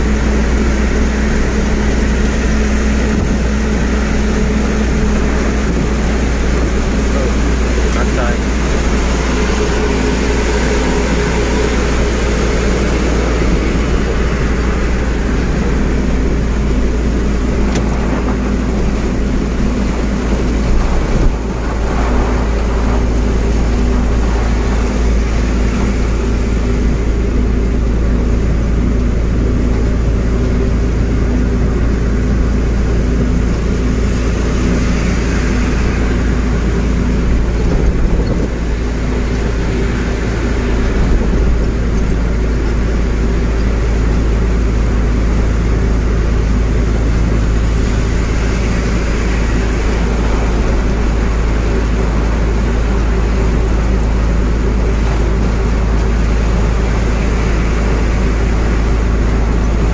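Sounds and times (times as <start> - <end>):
heavy rain hiss: 0.0 - 59.9
truck diesel engine running: 0.0 - 59.9
tyres on wet road: 0.0 - 59.9.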